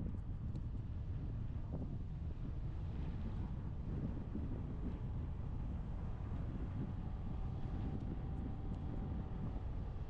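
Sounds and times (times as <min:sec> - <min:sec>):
car engine and tyre rumble: 0:00.5 - 0:10.0.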